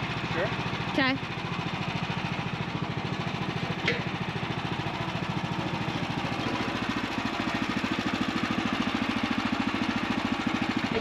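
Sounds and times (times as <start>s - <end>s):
small gasoline engine idling: 0.0s - 11.0s.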